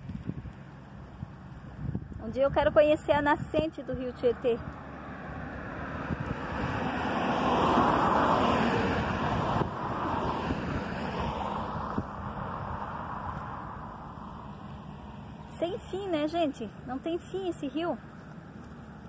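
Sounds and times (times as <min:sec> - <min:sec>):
wind buffeting microphone: 0:00.0 - 0:16.2
road vehicle passing: 0:00.0 - 0:19.0.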